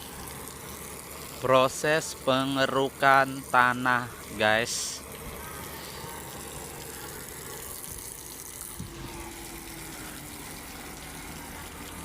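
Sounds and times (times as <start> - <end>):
water gushing: 0.0 - 12.0.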